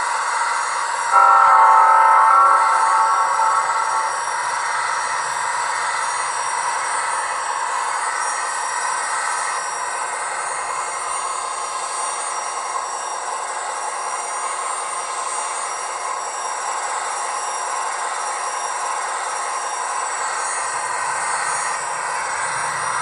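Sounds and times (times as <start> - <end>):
hissing rush with high whine: 0.0 - 23.0.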